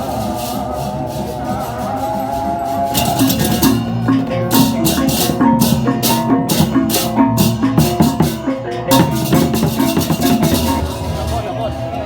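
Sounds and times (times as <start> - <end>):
cymbal-like clashes: 0.0 - 11.5
ringing metallophone notes: 0.0 - 12.0.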